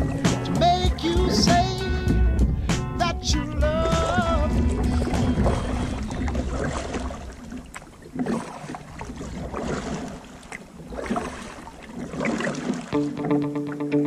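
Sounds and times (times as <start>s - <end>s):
water splashing around boat: 0.0s - 14.0s.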